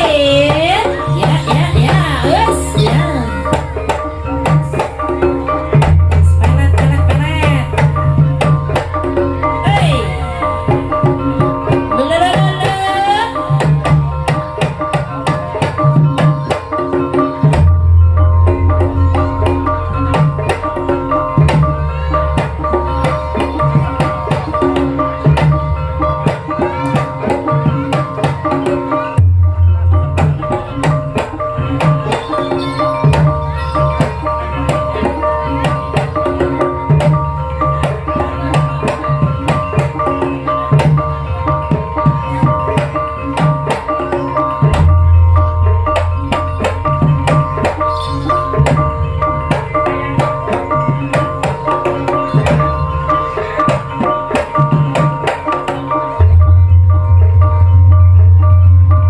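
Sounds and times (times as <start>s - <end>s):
hand drum strokes: 0.0s - 59.0s
tuned percussion notes: 0.0s - 59.0s.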